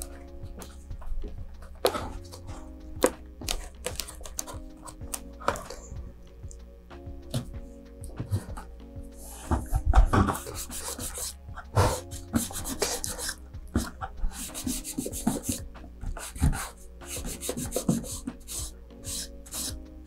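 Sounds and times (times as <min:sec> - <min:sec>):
gloved fingers rubbing and scraping: 0:00.0 - 0:06.6, 0:07.3 - 0:19.9
faint background music: 0:00.0 - 0:20.0.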